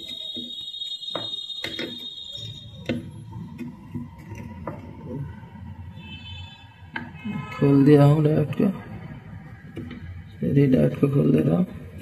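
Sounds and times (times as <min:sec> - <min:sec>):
steady electronic whine: 0:00.0 - 0:12.0.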